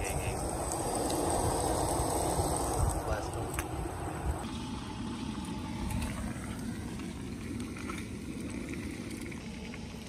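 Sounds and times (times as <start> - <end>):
camp stove rushing rumble: 0.0 - 10.0.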